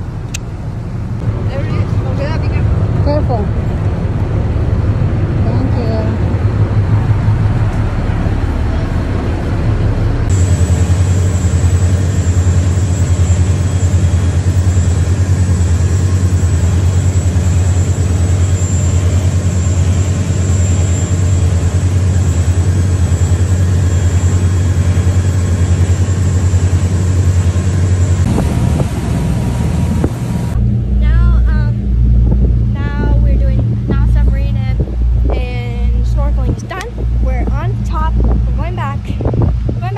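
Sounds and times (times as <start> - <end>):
boat engine drone: 0.0 - 39.9.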